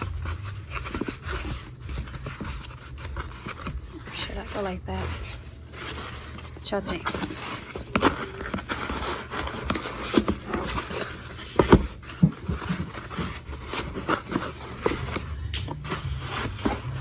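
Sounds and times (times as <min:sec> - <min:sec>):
cardboard box scraping and rustling: 0:00.0 - 0:17.0
foam packing rustling: 0:00.0 - 0:17.0.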